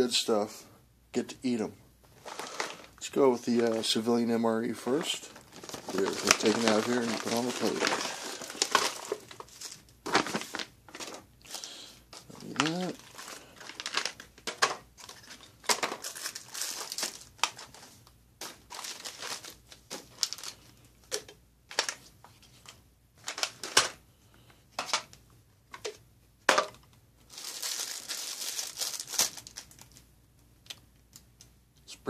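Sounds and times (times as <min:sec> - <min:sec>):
packets crinkling and rustling: 0:02.2 - 0:24.0, 0:25.8 - 0:30.1.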